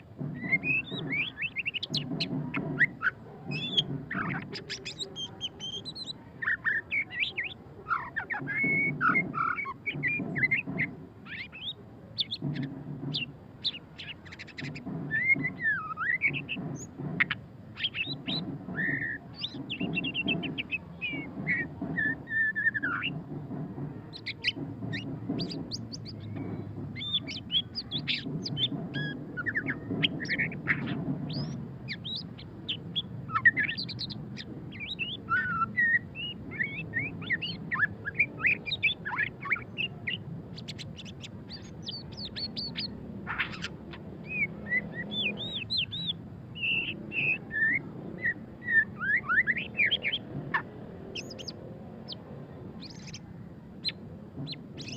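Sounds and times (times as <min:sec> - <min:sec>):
songbird singing chirps and whistles: 0:00.0 - 0:54.9.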